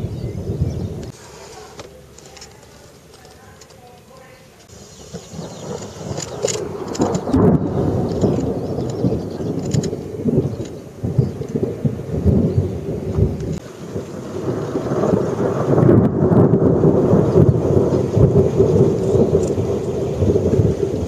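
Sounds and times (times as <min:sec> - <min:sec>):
rolling thunder: 0:00.0 - 0:01.2, 0:04.6 - 0:21.0.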